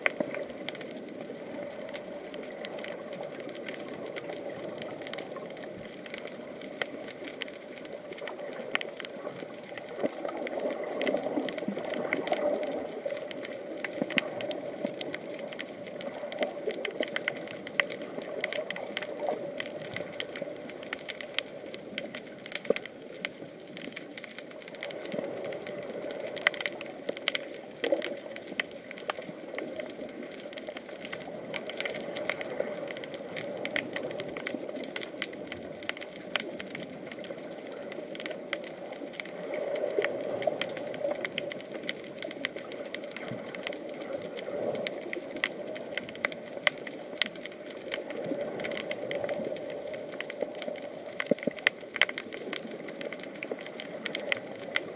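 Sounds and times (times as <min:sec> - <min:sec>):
fine underwater crackles and clicks: 0:00.0 - 0:54.9
muffled underwater water wash: 0:00.0 - 0:54.9.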